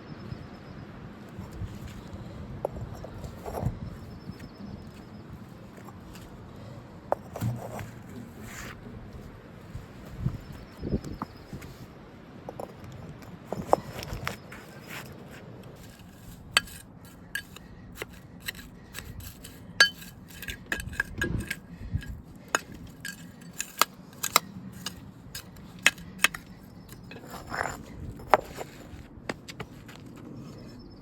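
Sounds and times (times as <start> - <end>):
brick pavers clinking: 1.3 - 9.3, 12.5 - 30.8.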